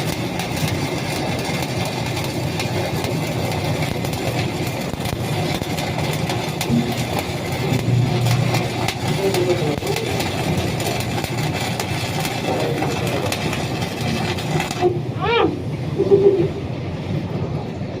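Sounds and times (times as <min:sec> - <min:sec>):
welding arc crackle: 0:00.0 - 0:16.6
industrial machinery hum: 0:00.0 - 0:18.0.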